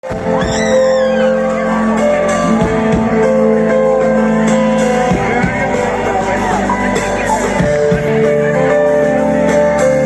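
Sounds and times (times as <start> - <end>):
electric guitars sustained chords: 0.0 - 10.0
live rock band playing: 0.0 - 10.0.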